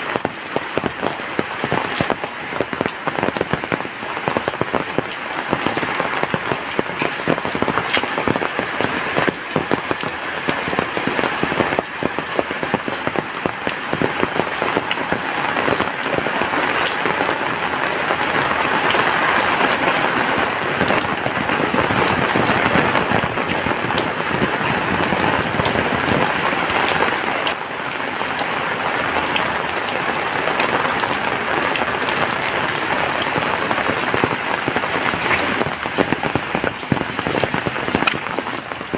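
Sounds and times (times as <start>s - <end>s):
heavy rain hiss: 0.0s - 38.9s
raindrop hits: 0.0s - 38.9s.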